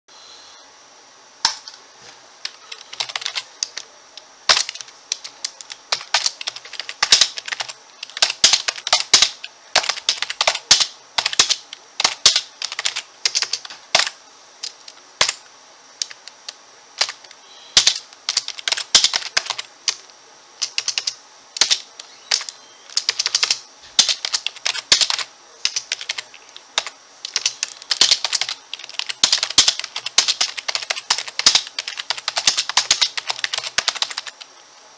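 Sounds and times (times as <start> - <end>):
computer keyboard typing: 2.4 - 3.9, 4.5 - 15.4, 16.0 - 17.2, 17.8 - 20.0, 20.6 - 34.4.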